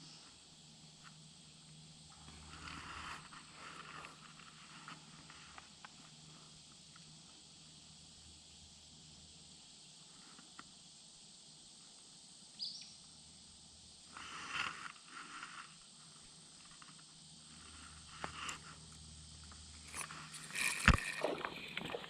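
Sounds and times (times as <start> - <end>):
faint high hum: 0.0 - 22.0.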